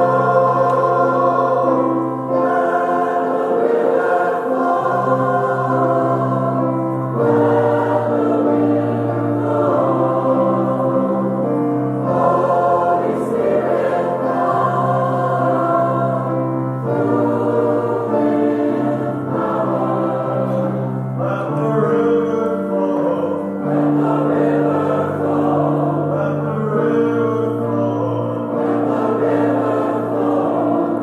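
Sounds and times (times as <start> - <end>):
choir singing: 0.0 - 31.0.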